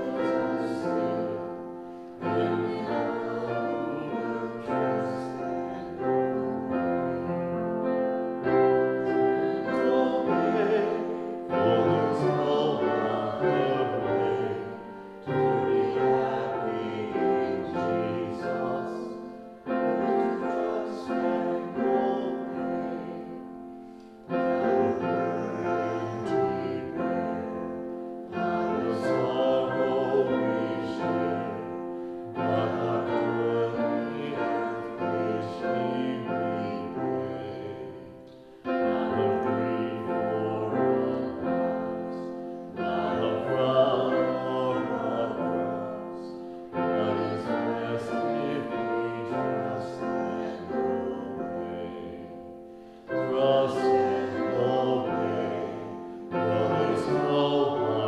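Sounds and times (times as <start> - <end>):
man singing a hymn: 0.0 - 23.5, 24.2 - 58.0
piano accompaniment: 0.0 - 58.0.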